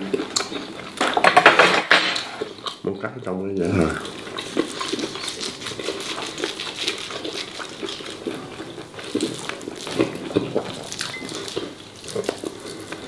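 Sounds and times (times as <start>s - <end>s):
wet chewing mouth sounds: 2.2s - 13.0s.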